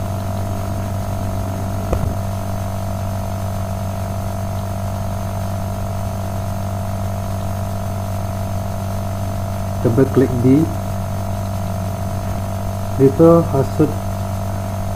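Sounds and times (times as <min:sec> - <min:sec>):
electrical hum: 0:00.0 - 0:14.9.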